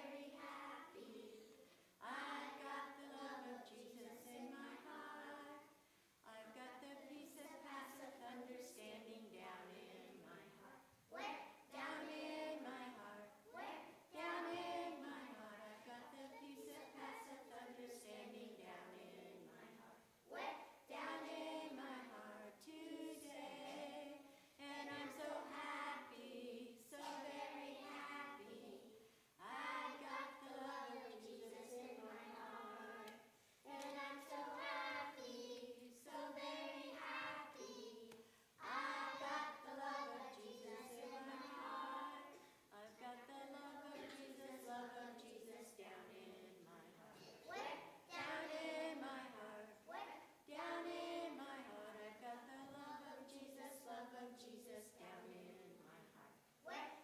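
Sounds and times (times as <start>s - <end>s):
children singing together: 0.0s - 5.8s, 11.2s - 56.0s.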